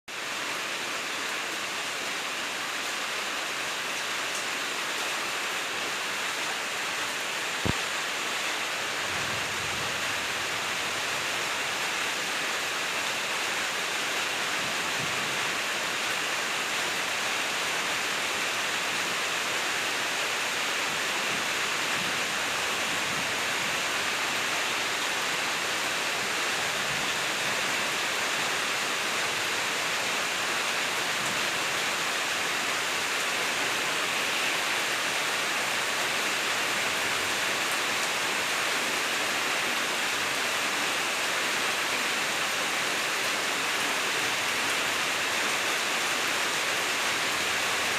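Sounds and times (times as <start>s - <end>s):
rain hissing: 0.1s - 47.9s.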